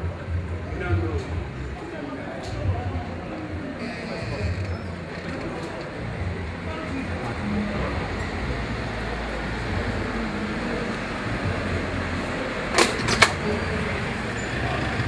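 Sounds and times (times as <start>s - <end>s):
vehicle engine rumbling: 2.7s - 15.0s.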